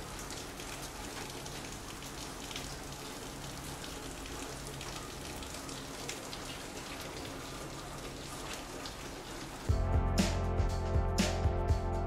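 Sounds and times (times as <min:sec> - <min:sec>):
steady rain falling: 0:00.0 - 0:10.6.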